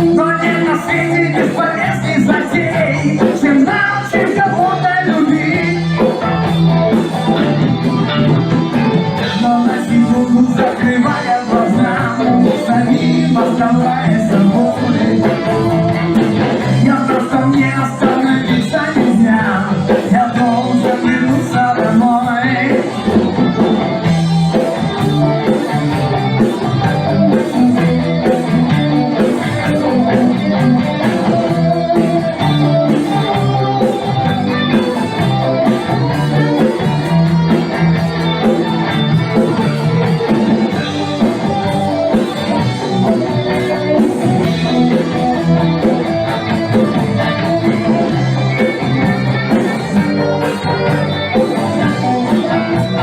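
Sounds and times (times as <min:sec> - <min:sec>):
person singing: 0:00.0 - 0:08.0, 0:08.6 - 0:53.0
electric guitar: 0:00.0 - 0:53.0
rock band playing: 0:00.0 - 0:53.0.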